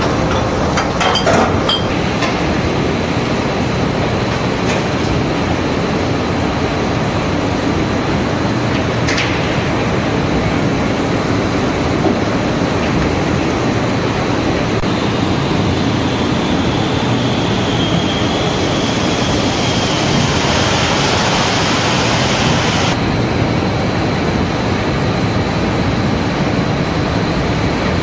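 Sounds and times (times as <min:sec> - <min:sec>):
machinery running: 0:00.0 - 0:23.8.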